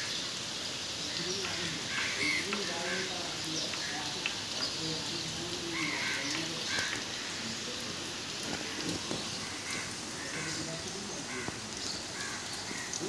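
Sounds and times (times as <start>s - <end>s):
rain on tiled roofs: 0.0s - 13.0s
faint calls: 1.0s - 13.0s.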